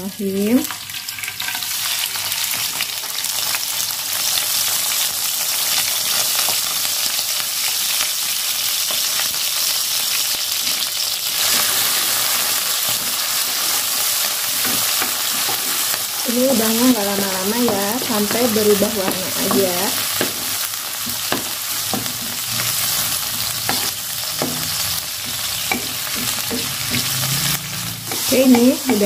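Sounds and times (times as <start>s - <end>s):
shrimp sizzling in hot oil: 0.2s - 29.0s.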